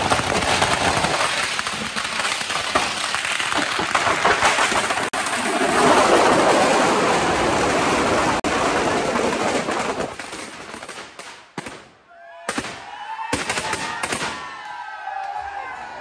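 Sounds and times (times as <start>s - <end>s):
firecrackers crackling: 0.0s - 11.9s, 12.5s - 14.6s.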